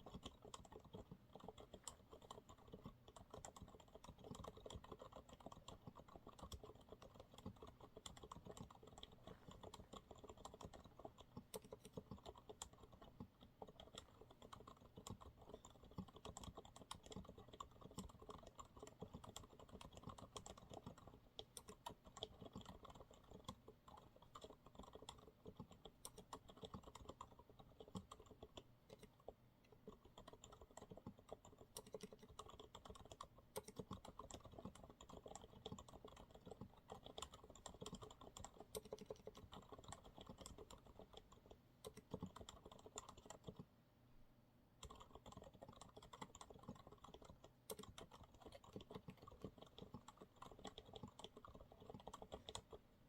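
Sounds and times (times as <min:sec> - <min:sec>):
quiet muted keyboard typing: 0:00.0 - 0:43.8, 0:44.7 - 0:53.0.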